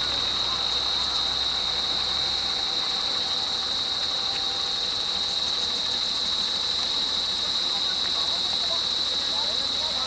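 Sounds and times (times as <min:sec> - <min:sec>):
faint vehicle engine idling: 0:00.0 - 0:10.0.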